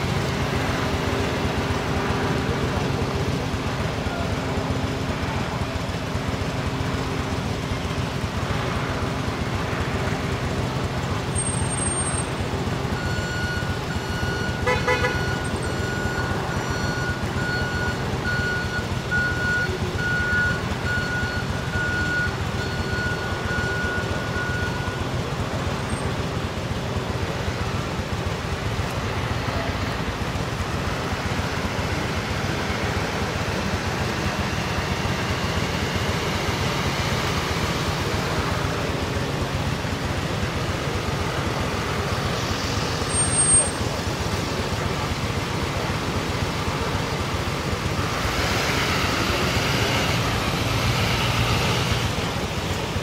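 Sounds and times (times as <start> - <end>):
helicopter engine and rotor rumble: 0.0 - 53.0.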